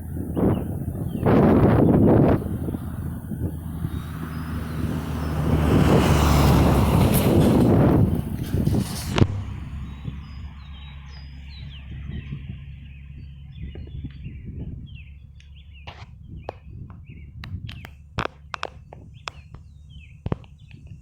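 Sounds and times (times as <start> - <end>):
small birds chirping: 0.0 - 6.5, 8.9 - 21.0.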